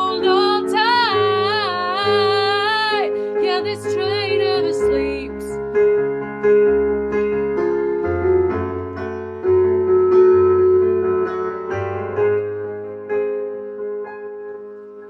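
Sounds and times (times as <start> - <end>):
piano chords over bass notes: 0.0 - 15.0.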